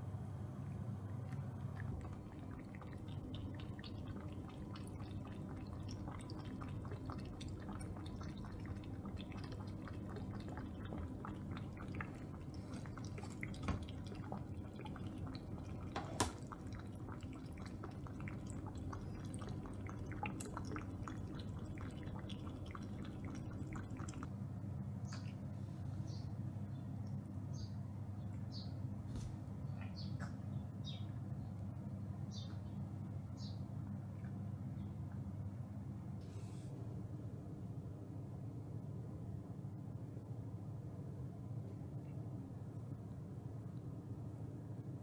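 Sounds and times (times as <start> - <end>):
low room hum: 0.0 - 45.0.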